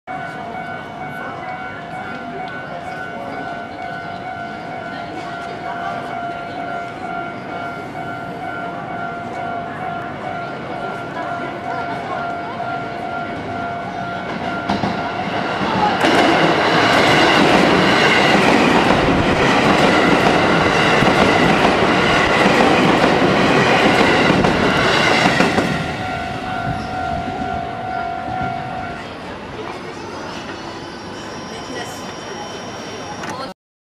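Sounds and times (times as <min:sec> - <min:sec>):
crossing warning bell ringing: 0:00.1 - 0:33.5
electric train passing: 0:00.1 - 0:33.5.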